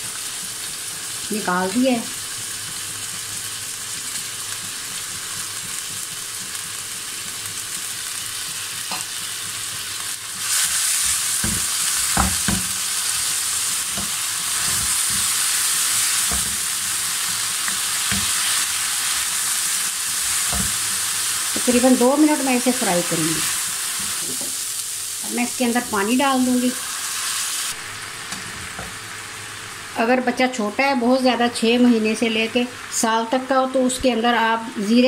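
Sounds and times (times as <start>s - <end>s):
lentils sizzling in oil: 0.0s - 35.0s.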